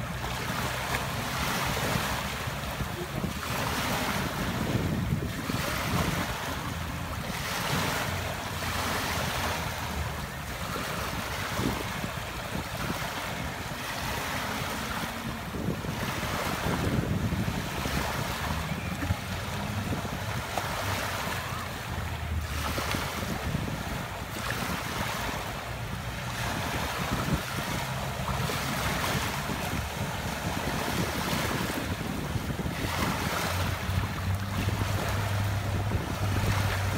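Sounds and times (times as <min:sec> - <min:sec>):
small waves lapping on beach: 0:00.0 - 0:36.9
wind on microphone: 0:00.0 - 0:36.9.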